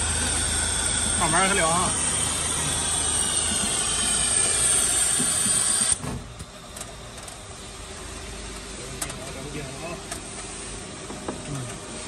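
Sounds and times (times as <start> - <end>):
machine hissing with high whine: 0.0 - 12.0.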